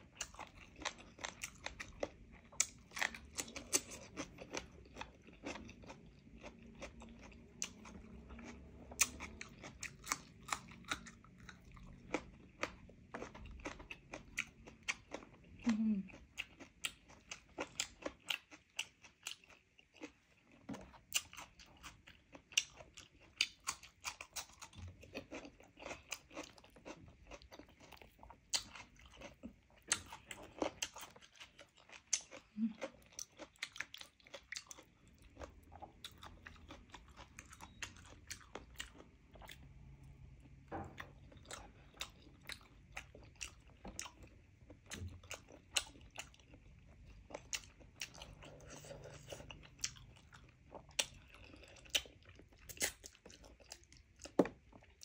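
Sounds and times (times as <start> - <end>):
chewing chicken: 0.0 - 55.0.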